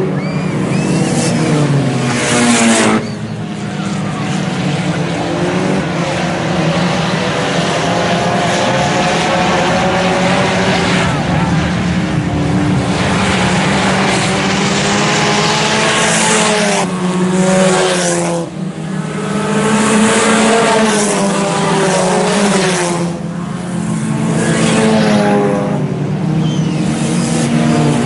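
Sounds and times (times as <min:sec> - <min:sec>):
race car engines passing by: 0:00.0 - 0:28.0.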